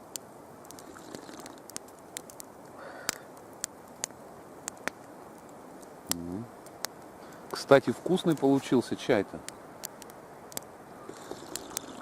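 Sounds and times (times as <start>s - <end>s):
campfire wood crackling: 0.0s - 12.0s
soft hiss: 0.0s - 12.0s.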